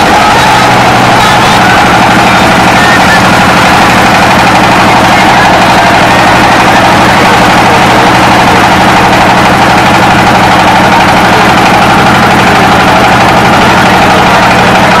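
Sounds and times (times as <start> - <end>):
engine running with rapid pulsing: 0.0 - 15.0.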